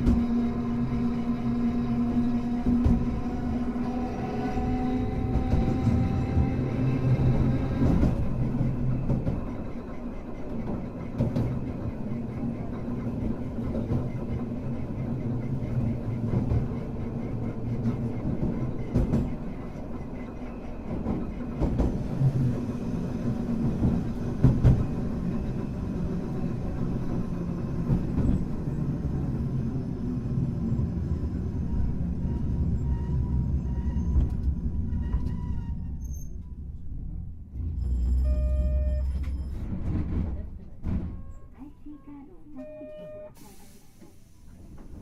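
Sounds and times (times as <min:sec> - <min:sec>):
tram wheels and motor rumbling: 0:00.0 - 0:45.0.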